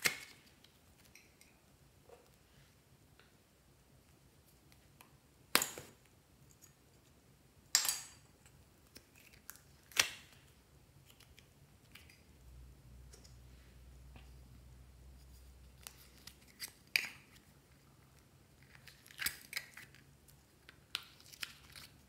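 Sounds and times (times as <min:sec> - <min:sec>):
faint low hum: 0:00.2 - 0:22.0.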